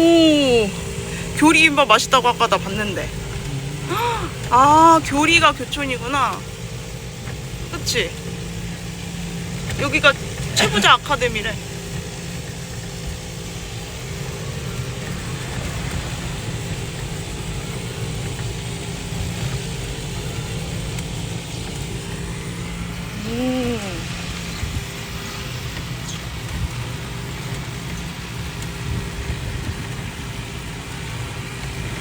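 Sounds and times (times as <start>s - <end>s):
faint electric motor hum: 0.0s - 32.0s
road and wind noise: 0.0s - 32.0s.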